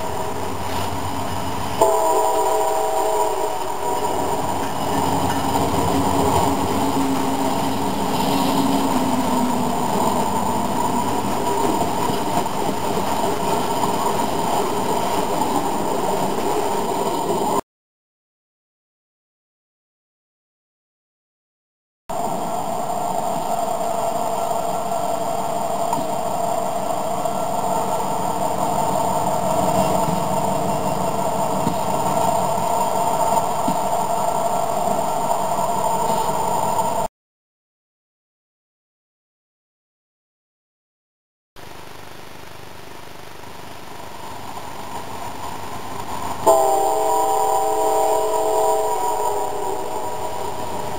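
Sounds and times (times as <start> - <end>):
model locomotive engine hum: 0.0 - 17.6, 22.1 - 37.1, 41.7 - 50.9
model train cars rolling rumble: 0.0 - 17.6, 22.1 - 37.1, 41.7 - 50.9.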